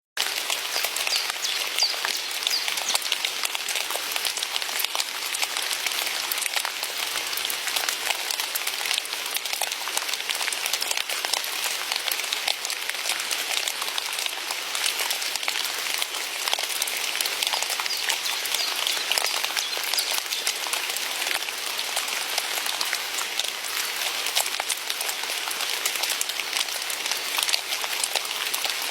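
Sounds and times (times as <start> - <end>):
heavy rain falling: 0.2 - 28.9.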